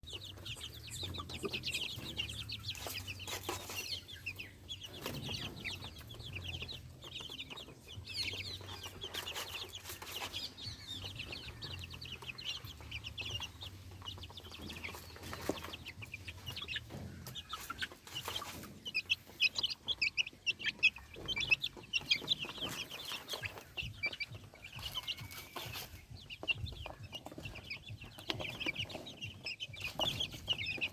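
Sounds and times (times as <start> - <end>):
chicks cheeping: 0.0 - 30.9.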